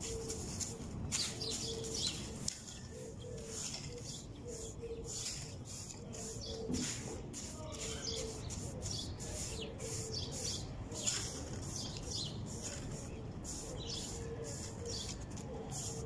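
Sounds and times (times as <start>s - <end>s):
birds chirping: 0.0s - 16.0s
broom sweeping wet concrete: 0.0s - 16.0s.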